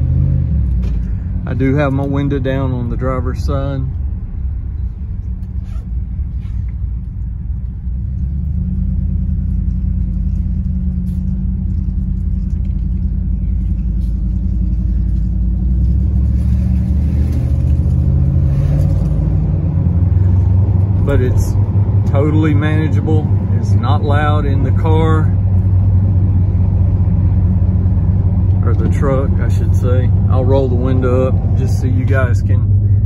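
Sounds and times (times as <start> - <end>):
engine low rumble: 0.0 - 33.0.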